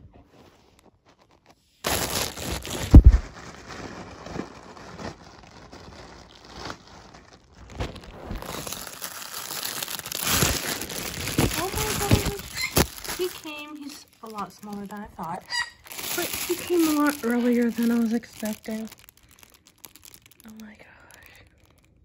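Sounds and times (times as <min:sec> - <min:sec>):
plastic packaging crinkling: 0:00.3 - 0:22.0
plastic bag tearing: 0:00.6 - 0:22.0.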